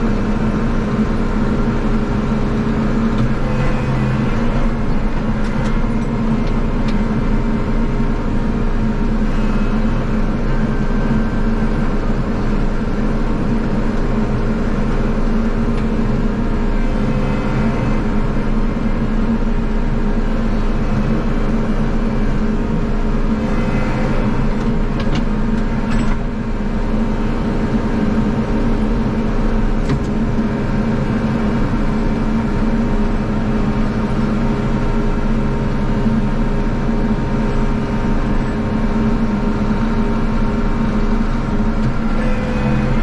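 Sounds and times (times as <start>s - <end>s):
snowblower engine running: 0.0s - 43.0s.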